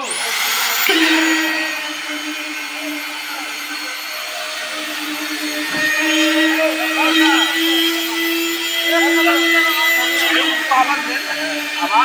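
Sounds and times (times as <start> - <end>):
small motor humming and whining: 0.0 - 12.0.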